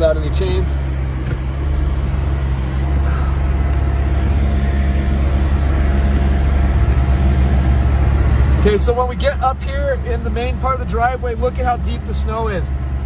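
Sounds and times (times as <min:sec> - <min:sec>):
car rumbling through snow: 0:00.0 - 0:13.0.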